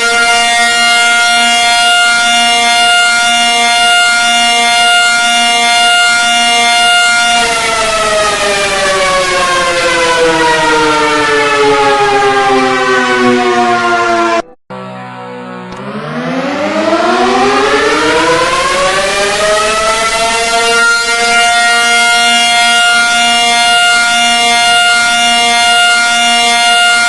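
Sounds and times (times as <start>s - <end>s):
civil defence siren: 0.0s - 27.0s.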